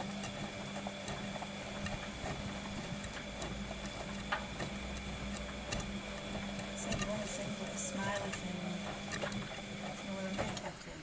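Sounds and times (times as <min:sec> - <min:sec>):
washing machine motor hum: 0:00.0 - 0:11.0.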